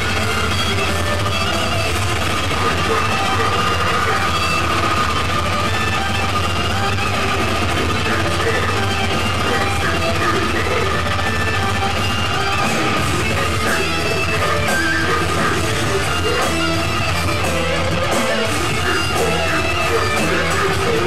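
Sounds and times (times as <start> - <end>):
death metal band playing live: 0.0 - 21.0.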